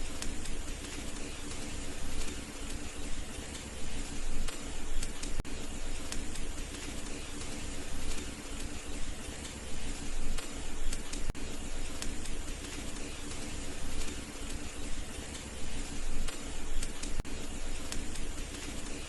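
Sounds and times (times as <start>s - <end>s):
wood fire crackling and hissing: 0.0s - 19.0s.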